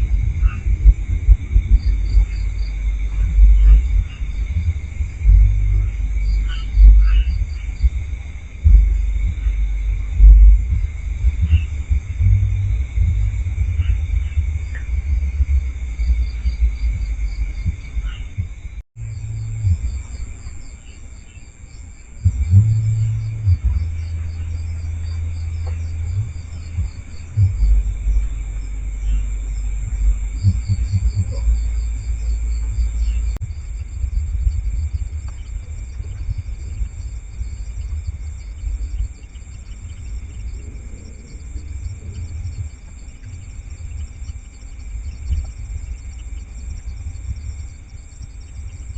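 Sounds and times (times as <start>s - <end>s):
crickets chirping: 0.0s - 48.9s
heavy low rumble: 0.0s - 48.9s.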